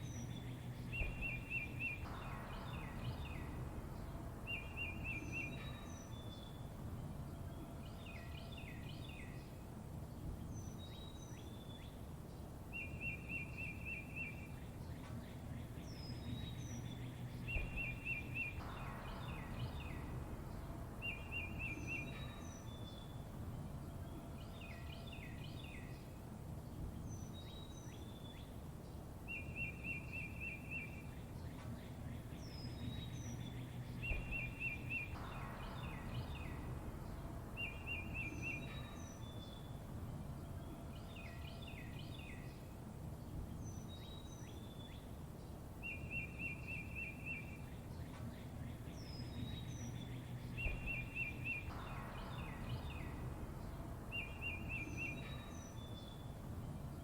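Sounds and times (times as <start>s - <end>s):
songbirds chirping: 0.0s - 57.0s
steady low rumble: 0.0s - 57.0s.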